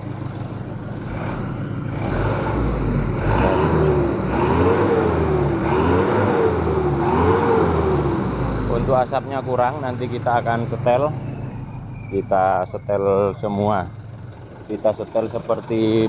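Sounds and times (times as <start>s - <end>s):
diesel engine revving: 0.0s - 16.0s.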